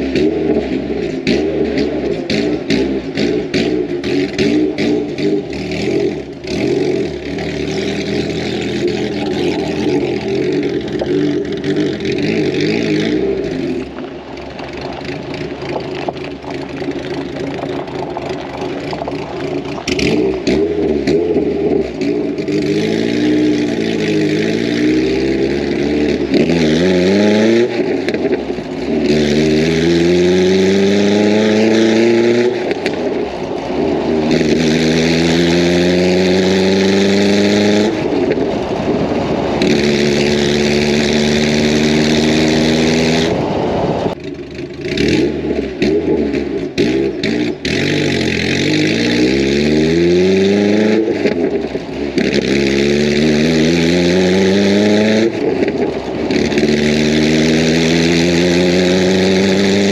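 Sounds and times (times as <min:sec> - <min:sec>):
car engine accelerating hard: 0:00.0 - 0:59.9
exhaust cracks: 0:00.0 - 0:59.9.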